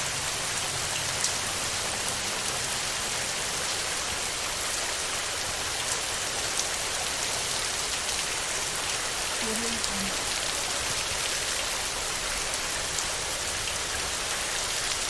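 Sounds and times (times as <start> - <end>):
heavy rain on a tin roof: 0.0 - 15.0.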